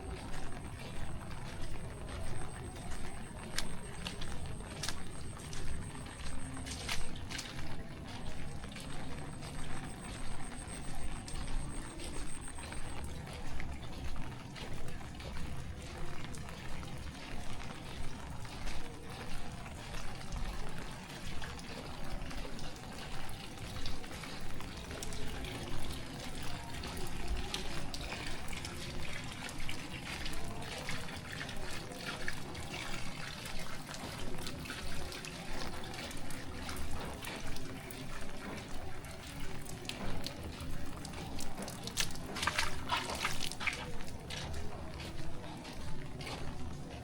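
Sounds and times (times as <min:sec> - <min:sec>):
footsteps on wet road: 0:00.0 - 0:47.0
rain falling: 0:00.0 - 0:47.0.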